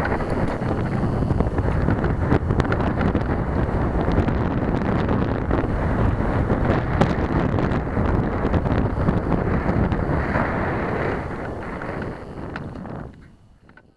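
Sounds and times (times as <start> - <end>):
bicycle rattles: 0.0 - 13.9
wind buffeting microphone: 0.0 - 13.9.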